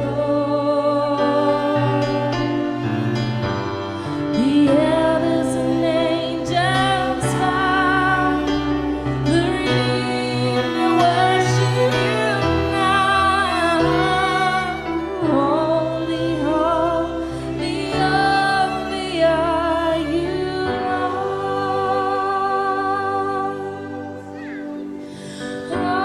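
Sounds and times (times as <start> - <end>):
woman singing: 0.0 - 2.9, 4.1 - 26.0
sustained instrumental chords: 0.0 - 26.0.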